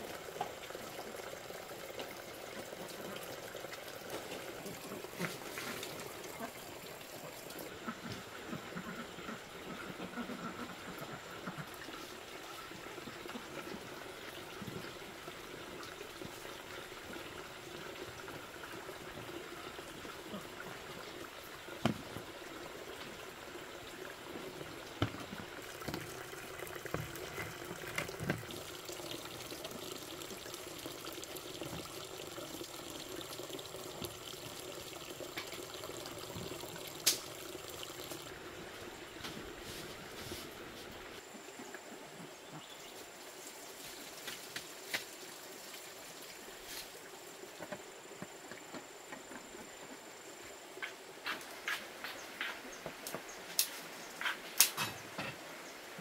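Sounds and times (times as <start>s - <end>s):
water running and trickling: 0.0s - 56.0s.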